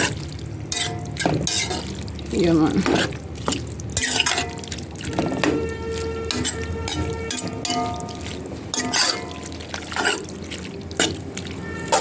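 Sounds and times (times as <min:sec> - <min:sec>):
utensil stirring wet food in pot: 0:00.0 - 0:12.0.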